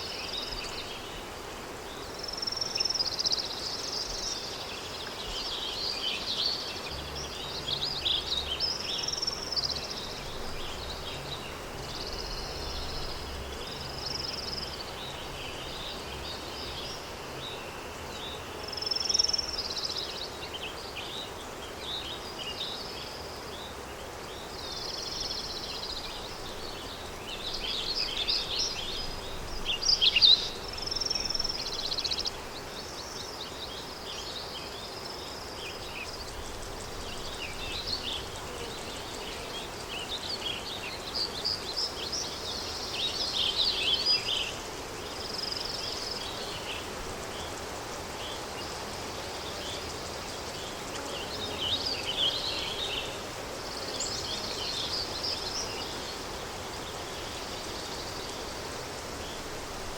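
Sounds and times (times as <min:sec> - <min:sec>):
songbirds singing: 0:00.0 - 0:59.9
wind hiss: 0:00.0 - 0:59.9.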